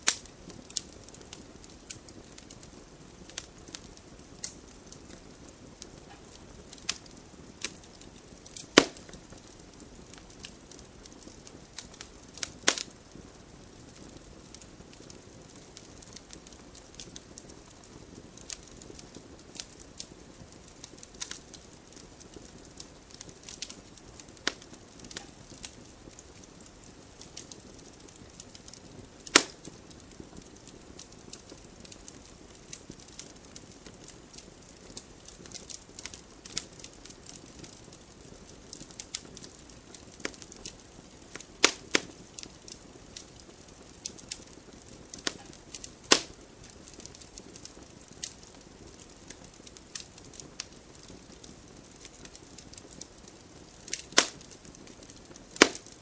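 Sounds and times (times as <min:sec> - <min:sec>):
fire crackling and popping: 0:00.0 - 0:56.0
fire hissing: 0:00.0 - 0:56.0.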